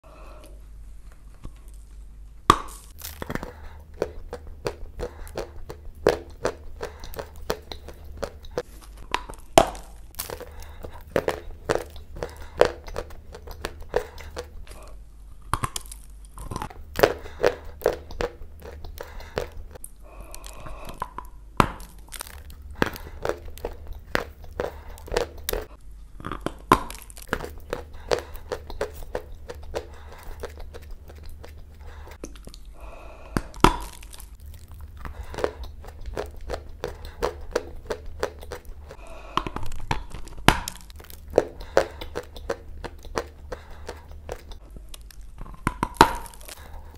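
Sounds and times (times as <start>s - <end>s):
steady low hum: 0.0s - 46.9s
clay being crunched and chewed: 1.1s - 46.9s.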